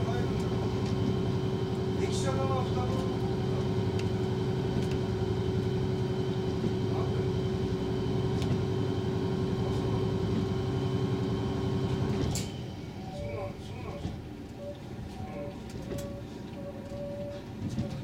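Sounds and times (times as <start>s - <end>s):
train engine drone: 0.0s - 18.0s
wheel-on-rail rumble: 0.0s - 18.0s.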